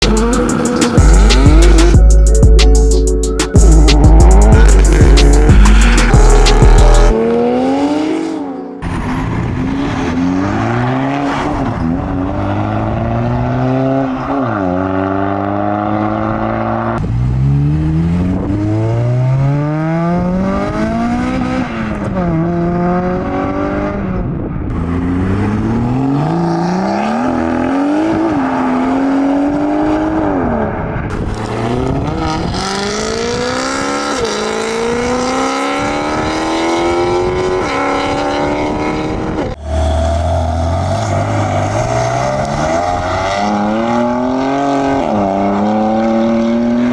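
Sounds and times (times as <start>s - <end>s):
car engines accelerating hard: 0.0s - 2.1s, 3.5s - 46.9s.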